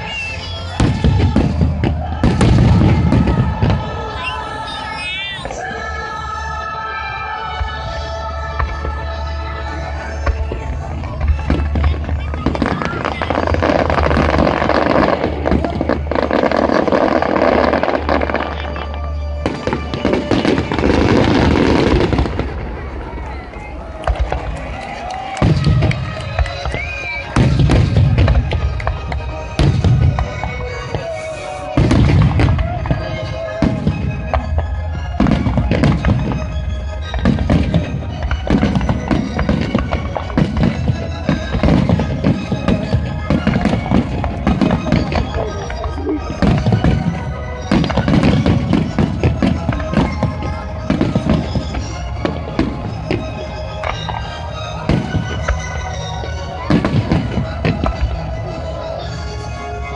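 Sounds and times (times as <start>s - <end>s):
fireworks crackling bursts: 0.0s - 59.9s
music playing: 0.0s - 59.9s.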